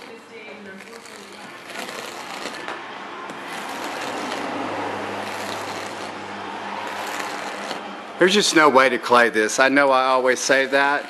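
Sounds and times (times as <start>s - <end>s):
razor blade scraping car paint: 0.0s - 11.0s.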